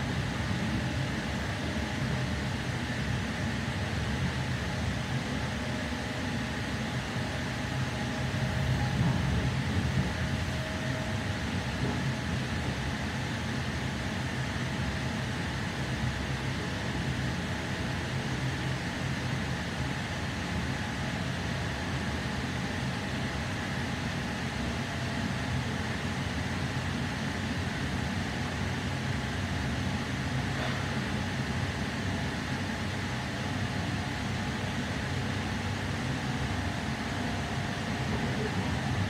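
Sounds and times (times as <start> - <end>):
electric train carriage rumble: 0.0 - 39.0.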